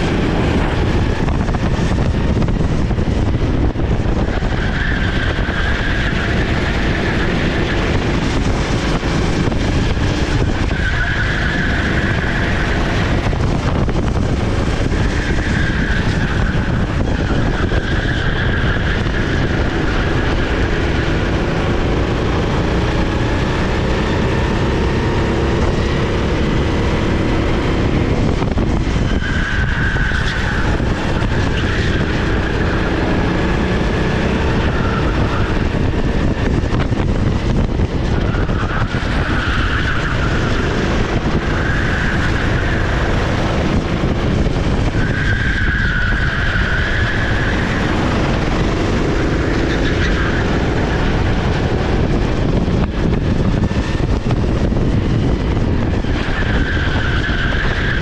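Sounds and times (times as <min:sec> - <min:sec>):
kart engine revving: 0:00.0 - 0:58.0
wind and road noise: 0:00.0 - 0:58.0.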